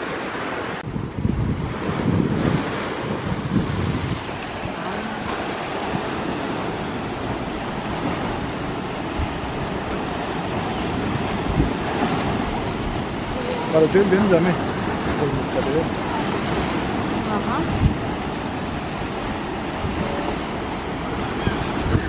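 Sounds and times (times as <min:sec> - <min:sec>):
waves splashing on rocky shore: 0:00.0 - 0:00.8, 0:01.5 - 0:22.0
wind buffeting microphone: 0:00.8 - 0:22.0.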